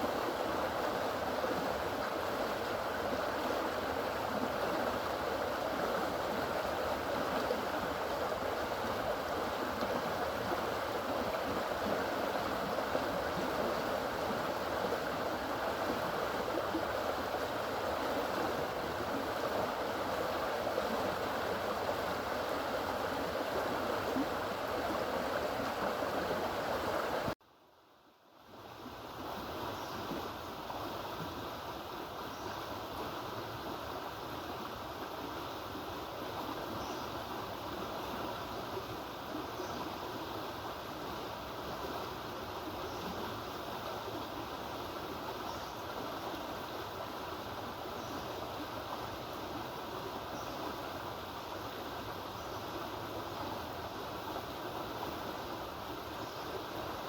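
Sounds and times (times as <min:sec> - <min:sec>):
floodwater rushing through canal: 0:00.0 - 0:27.4, 0:28.3 - 0:57.0.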